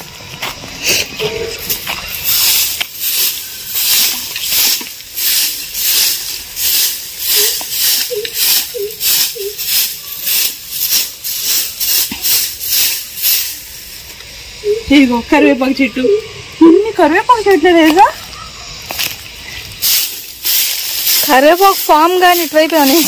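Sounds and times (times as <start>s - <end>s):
broom sweeping the ground: 0.0s - 15.9s, 16.9s - 23.0s.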